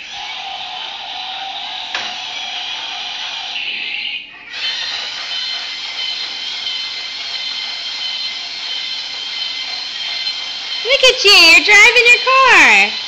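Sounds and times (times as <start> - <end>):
toy electronic engine sound: 0.0 - 13.0.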